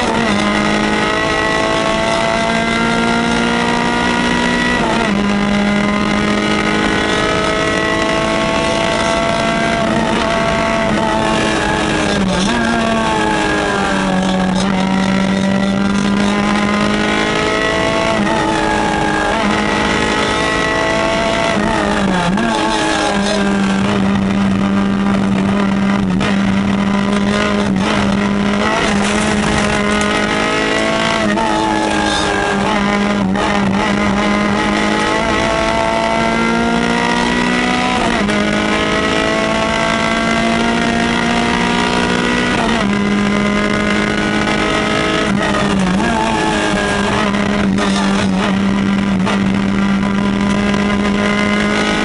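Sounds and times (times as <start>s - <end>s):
rally car engine accelerating: 0.0s - 52.0s.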